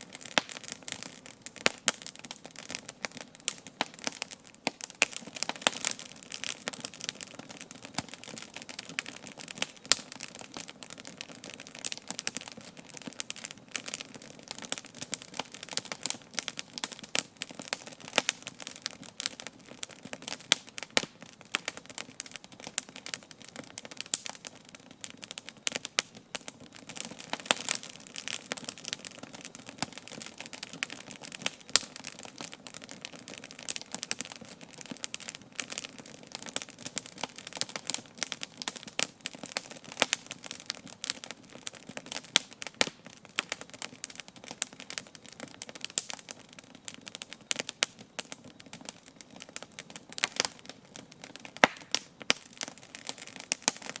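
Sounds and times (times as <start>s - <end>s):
campfire snaps and pops: 0.0s - 54.0s.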